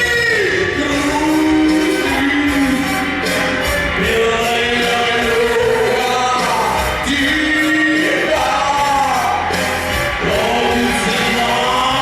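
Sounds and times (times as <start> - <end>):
song with held melody notes: 0.0 - 12.0.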